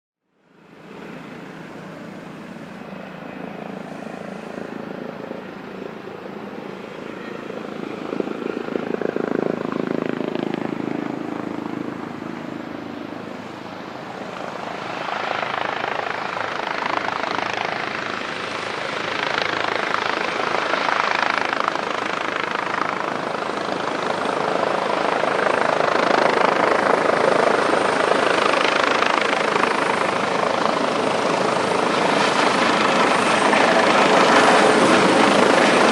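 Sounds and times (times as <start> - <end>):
helicopter rotor noise: 0.5 - 35.9.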